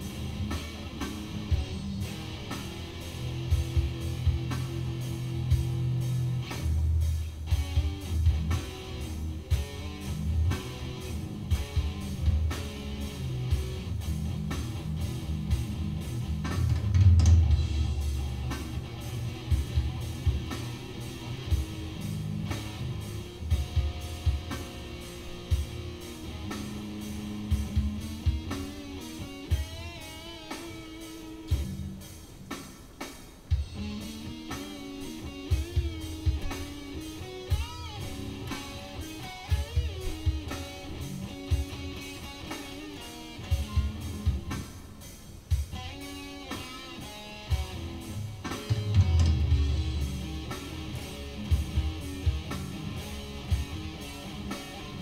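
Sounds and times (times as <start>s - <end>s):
drum beat: 0.0s - 55.0s
electric guitar rock: 0.0s - 55.0s.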